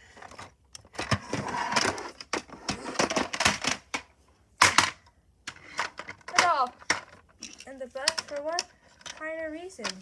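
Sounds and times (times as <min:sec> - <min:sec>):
toys clicking and clattering: 0:00.1 - 0:10.0.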